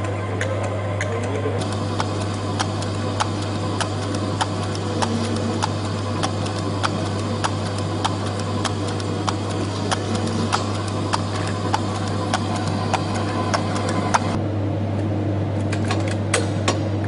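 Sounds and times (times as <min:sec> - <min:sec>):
machine clicking: 0:00.0 - 0:14.4
machine humming: 0:00.0 - 0:15.0.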